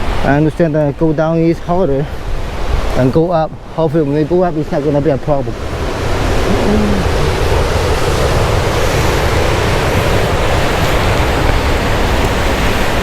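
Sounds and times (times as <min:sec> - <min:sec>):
ocean surf breaking: 0:00.0 - 0:13.0
wind on microphone: 0:00.0 - 0:13.0.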